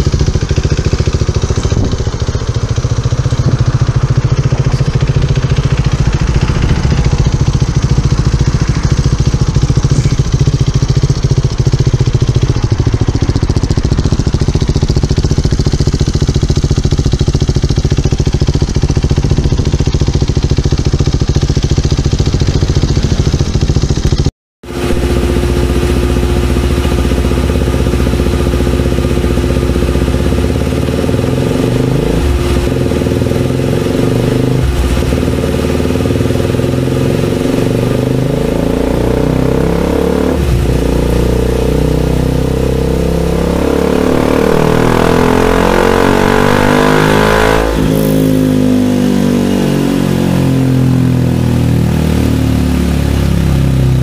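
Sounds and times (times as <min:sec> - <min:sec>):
motorcycle engine revving on dyno: 0:00.0 - 0:54.0
motorcycle exhaust pulsing: 0:00.0 - 0:54.0.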